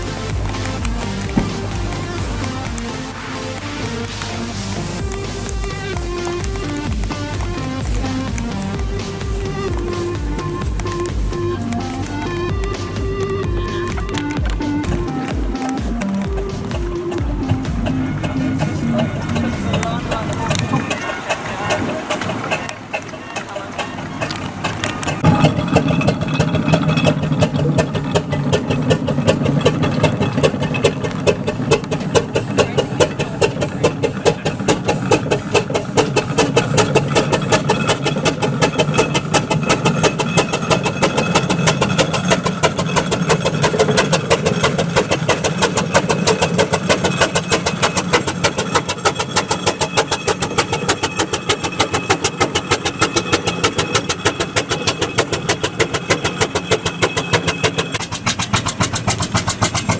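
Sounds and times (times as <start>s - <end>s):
old engine running steadily: 0.0s - 59.9s.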